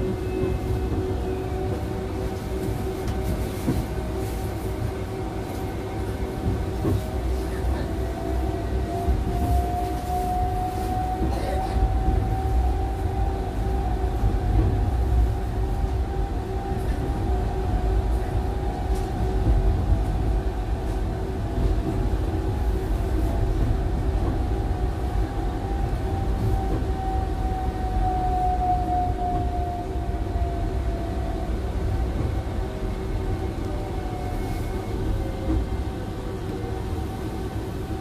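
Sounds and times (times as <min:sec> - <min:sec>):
tram wheels rumbling on rails: 0:00.0 - 0:38.0.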